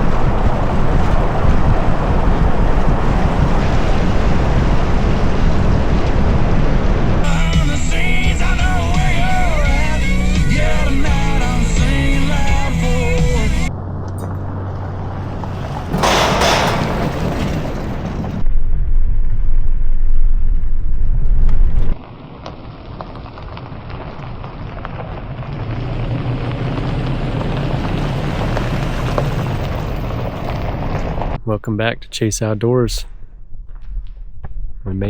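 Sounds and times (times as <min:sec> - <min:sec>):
wind buffeting microphone: 0:00.0 - 0:31.5.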